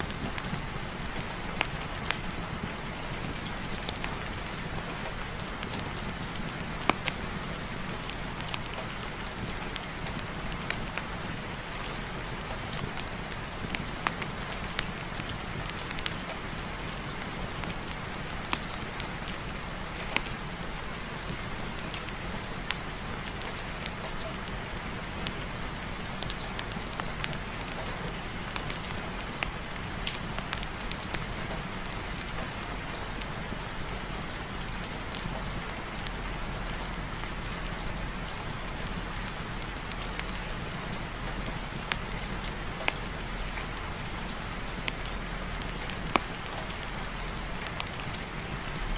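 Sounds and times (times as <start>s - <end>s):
fireplace fire crackling: 0.0s - 48.9s
heavy rain: 0.0s - 48.9s.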